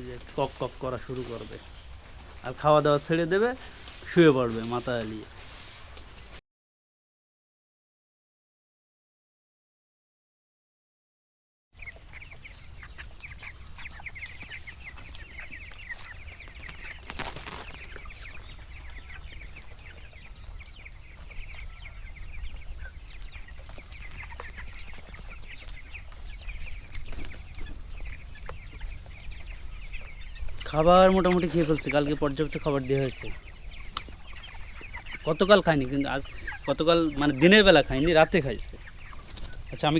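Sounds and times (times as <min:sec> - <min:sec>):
chicks cheeping and clucking: 0:00.0 - 0:06.4, 0:11.8 - 0:39.9.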